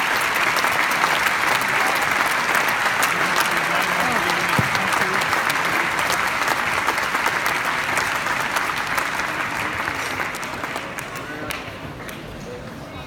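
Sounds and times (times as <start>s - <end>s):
crowd applauding: 0.0s - 11.7s.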